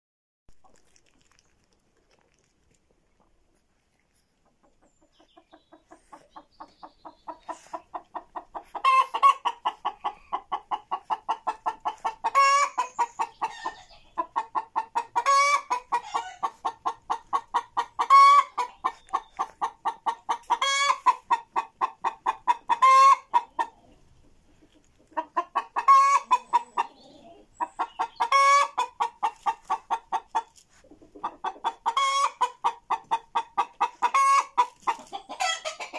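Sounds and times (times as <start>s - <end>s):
hen clucking rapidly: 4.4s - 35.9s.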